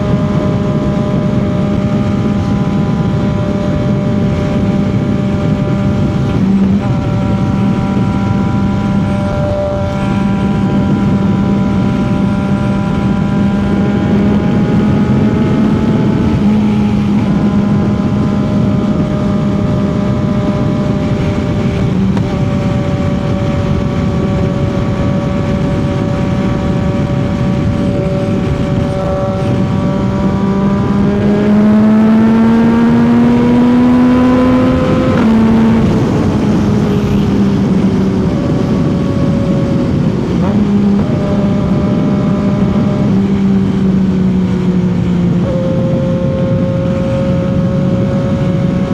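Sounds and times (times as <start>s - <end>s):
motorcycle engine cruising: 0.0s - 48.9s
wind and road rush: 0.0s - 48.9s.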